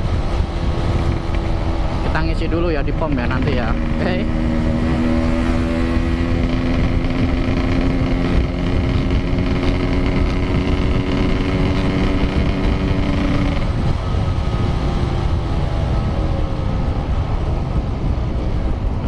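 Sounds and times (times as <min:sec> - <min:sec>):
two-stroke motorcycle engine: 0:00.0 - 0:19.0
wind and road noise: 0:00.0 - 0:19.0.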